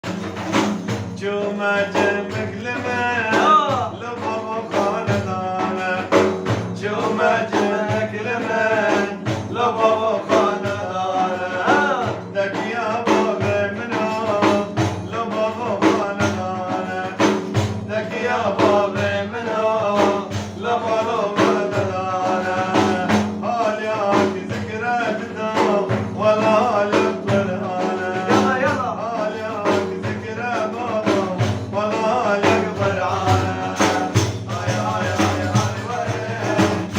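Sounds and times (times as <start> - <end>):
hand drum strikes: 0.0 - 36.9
man singing: 0.1 - 36.9.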